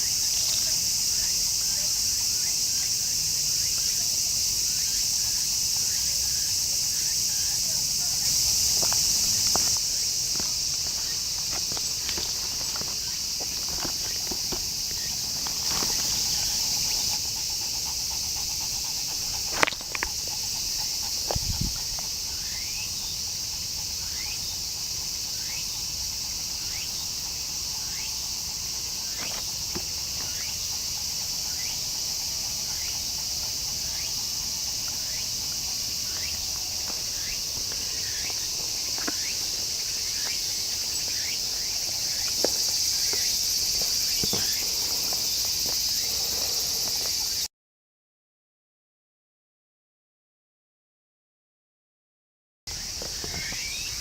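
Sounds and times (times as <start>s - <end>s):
insects chorus: 0.0s - 47.5s, 52.7s - 54.0s.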